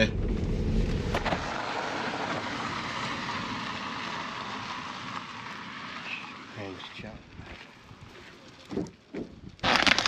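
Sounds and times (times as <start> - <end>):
car road and engine rumble: 0.0 - 9.3.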